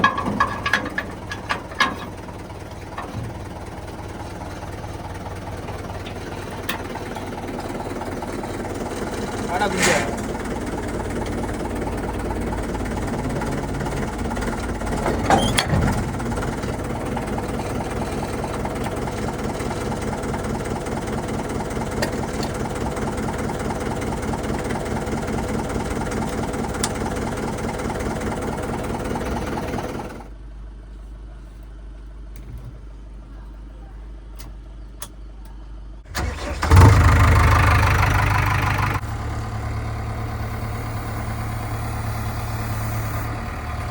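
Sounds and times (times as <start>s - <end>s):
diesel engine starting up: 0.0s - 30.3s, 36.0s - 43.9s
heavy diesel engine running: 0.0s - 43.9s.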